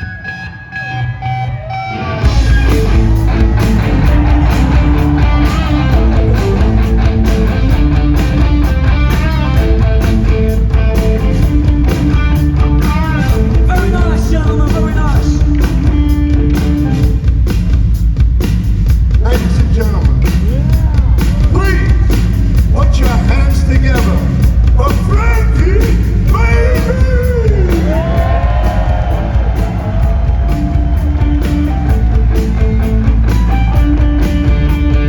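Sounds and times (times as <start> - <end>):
distorted electric guitars: 0.0 - 17.9, 18.8 - 35.0
drums: 0.0 - 35.0
punk rock band playing: 0.0 - 35.0.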